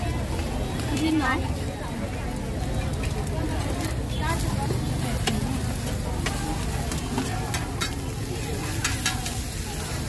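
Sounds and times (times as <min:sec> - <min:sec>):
food sizzling on griddle: 0:00.0 - 0:10.0.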